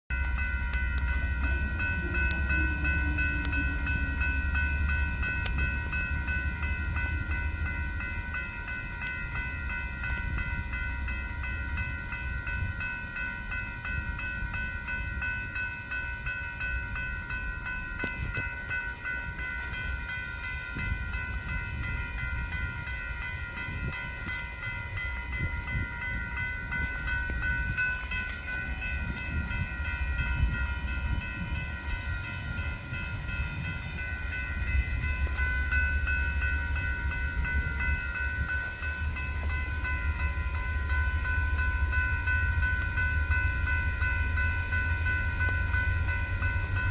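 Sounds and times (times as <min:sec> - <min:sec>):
railroad crossing bell ringing: 0:00.1 - 0:46.9.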